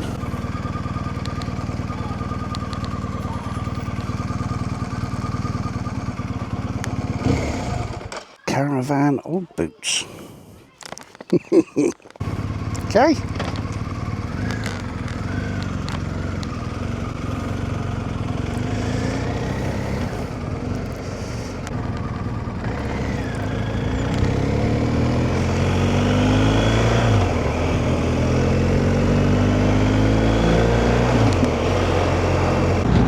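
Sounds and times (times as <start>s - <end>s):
motorcycle engine accelerating: 0.0s - 8.3s, 11.5s - 33.0s.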